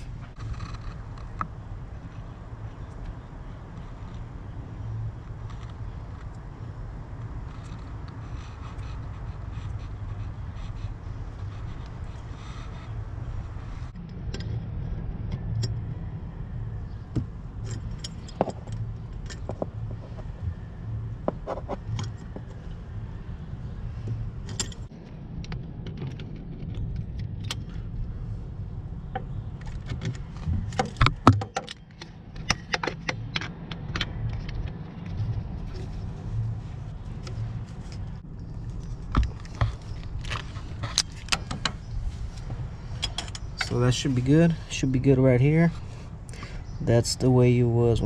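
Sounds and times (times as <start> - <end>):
low rumble: 0.0 - 31.3, 33.2 - 47.1.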